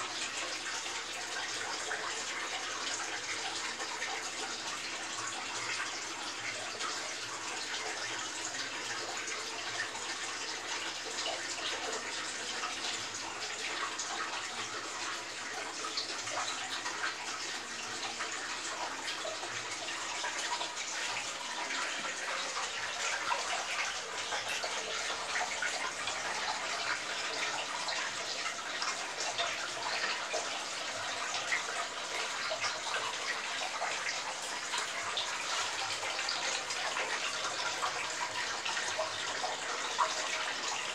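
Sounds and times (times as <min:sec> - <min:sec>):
aquarium water bubbling: 0:00.0 - 0:40.9.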